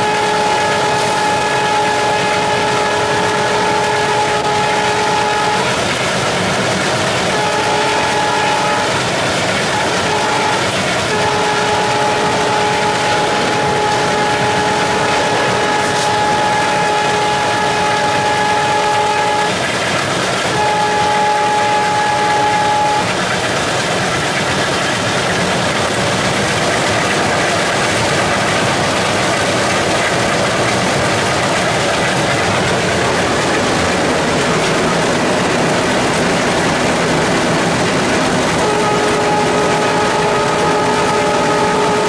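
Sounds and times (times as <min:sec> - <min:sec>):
held horn tone: 0:00.0 - 0:24.8, 0:25.6 - 0:42.0
locomotive engine and wheel noise: 0:00.0 - 0:42.0.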